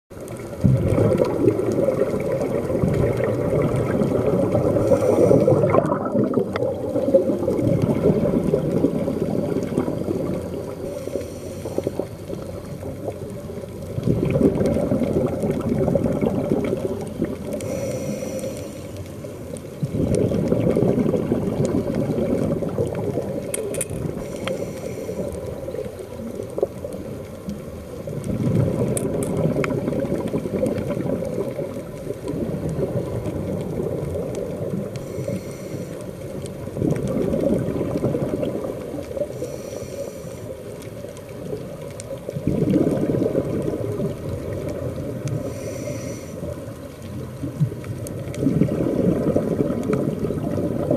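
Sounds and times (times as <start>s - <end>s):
muffled underwater water rushing: 0.1s - 50.9s.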